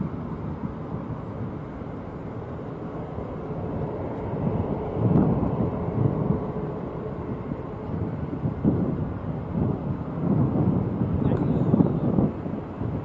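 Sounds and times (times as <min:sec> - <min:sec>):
jet engine low rumble: 0:00.0 - 0:13.0.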